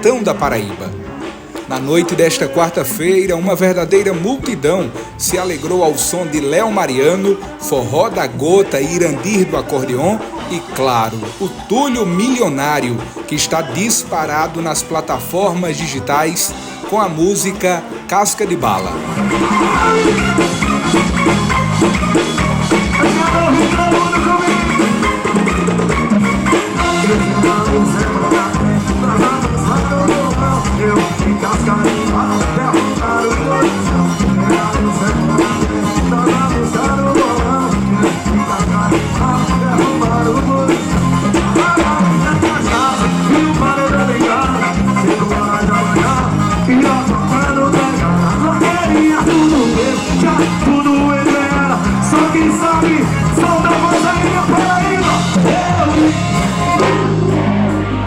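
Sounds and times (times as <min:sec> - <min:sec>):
band playing with steady beat: 0:00.0 - 0:58.0
person singing: 0:00.0 - 0:58.0.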